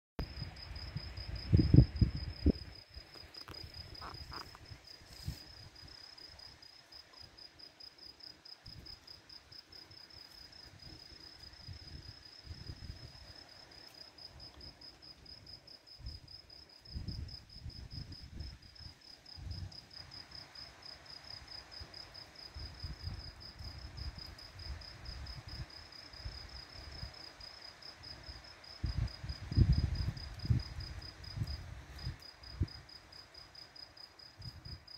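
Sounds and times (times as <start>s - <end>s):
insect trill: 0.2s - 34.9s.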